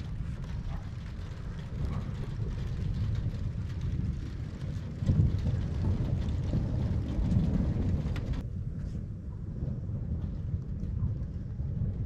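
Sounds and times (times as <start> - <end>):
thunder rumbling: 0.0 - 12.0
wind buffeting microphone: 0.0 - 12.0.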